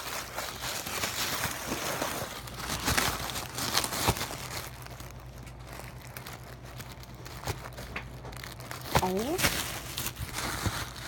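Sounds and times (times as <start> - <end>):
paper packaging crinkling: 0.0 - 11.0.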